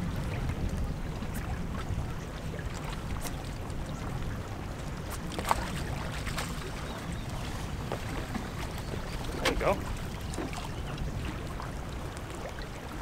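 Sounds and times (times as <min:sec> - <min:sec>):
water lapping against rocks: 0:00.0 - 0:13.0
wind rumble on microphone: 0:00.0 - 0:13.0.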